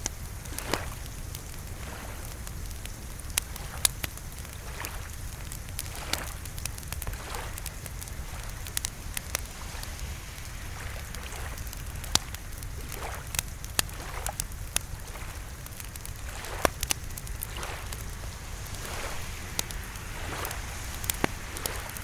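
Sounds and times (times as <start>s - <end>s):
soft hiss of rain: 0.0s - 22.0s
wood fire crackling: 0.0s - 22.0s.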